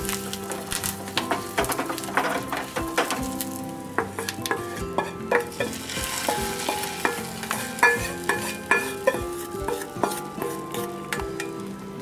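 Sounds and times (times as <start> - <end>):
hot oil sizzling and crackling: 0.0 - 12.0
instrumental music: 0.0 - 12.0.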